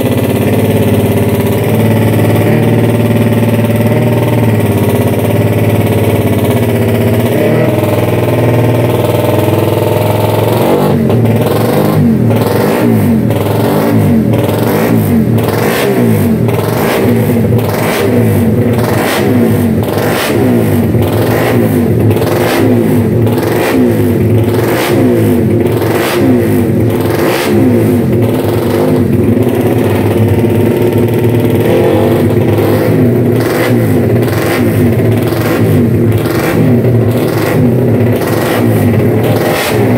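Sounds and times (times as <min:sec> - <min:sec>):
engine throttle blips: 0:00.0 - 0:39.9
motorbike engine idling: 0:00.0 - 0:39.9.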